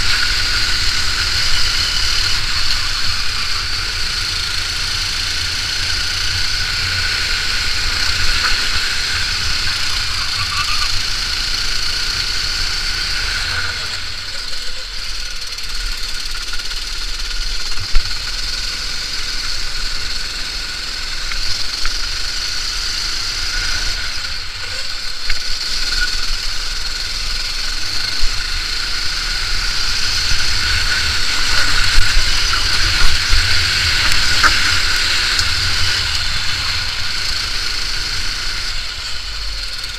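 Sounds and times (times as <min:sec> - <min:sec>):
kart engine running hard: 0:00.0 - 0:39.9
wind and road noise: 0:00.0 - 0:39.9.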